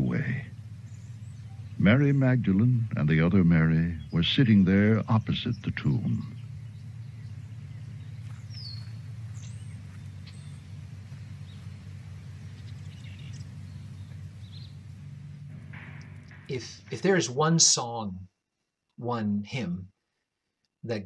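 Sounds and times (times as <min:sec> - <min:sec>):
faint bird chirps: 0:00.0 - 0:17.3
low steady hum: 0:00.0 - 0:21.0.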